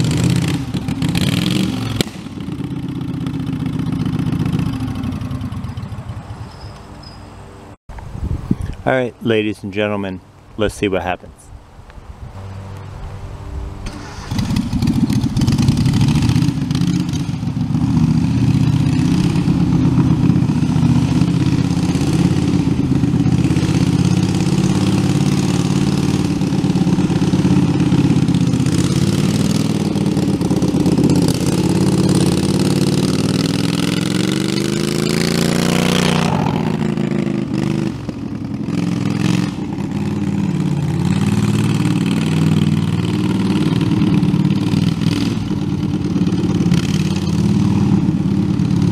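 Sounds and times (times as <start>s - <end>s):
tractor engine revving: 0.0s - 6.7s, 13.4s - 48.9s.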